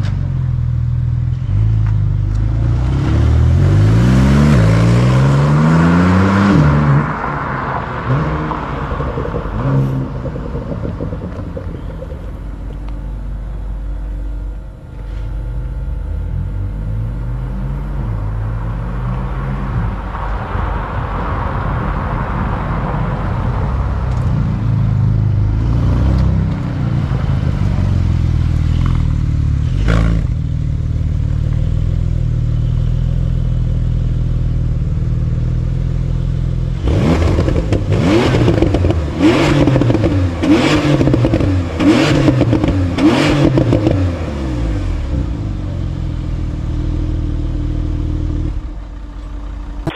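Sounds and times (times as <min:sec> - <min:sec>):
exhaust crack: 0:00.0 - 0:16.8, 0:18.0 - 0:49.9
car engine revving: 0:00.0 - 0:49.9.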